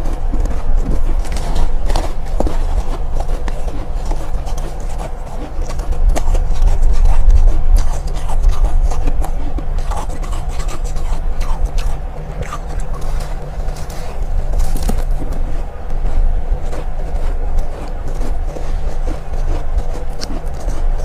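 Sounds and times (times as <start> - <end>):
ice being chewed and crunched: 0.0 - 21.0
low rumble: 0.0 - 21.0.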